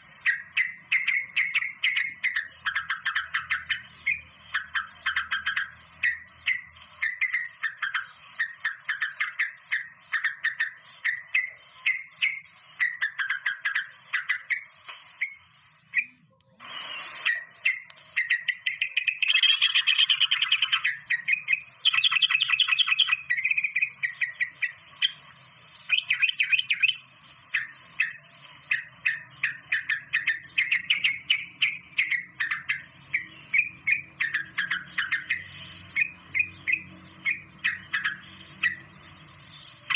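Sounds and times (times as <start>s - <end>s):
birds chirping: 0.0s - 39.9s
harsh bird chattering: 0.0s - 39.9s.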